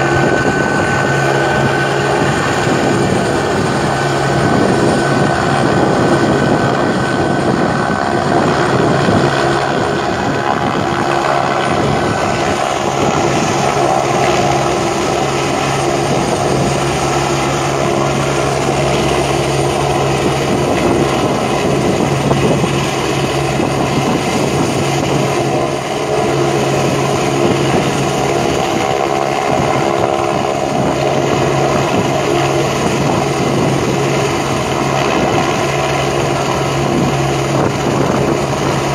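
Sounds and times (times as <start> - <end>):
helicopter hovering: 0.0 - 38.9.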